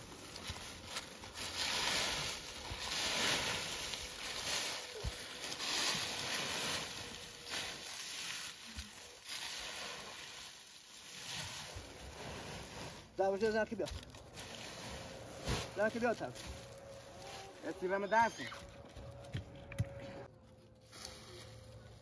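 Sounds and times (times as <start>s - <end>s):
dry leaves rustling and crunching: 0.0s - 19.3s.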